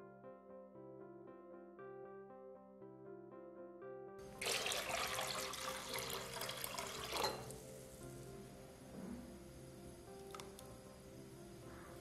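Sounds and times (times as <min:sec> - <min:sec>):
quiet instrumental music: 0:00.0 - 0:12.0.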